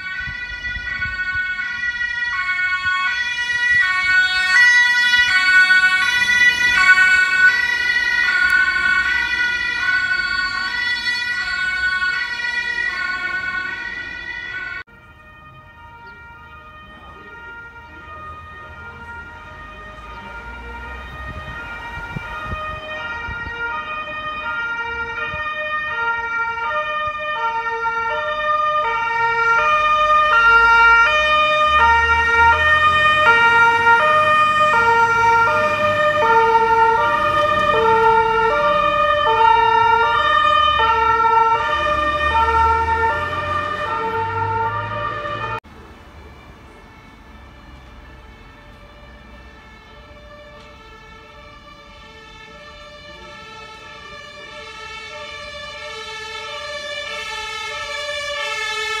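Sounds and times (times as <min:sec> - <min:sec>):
two-tone fire engine siren: 0:00.0 - 0:59.0.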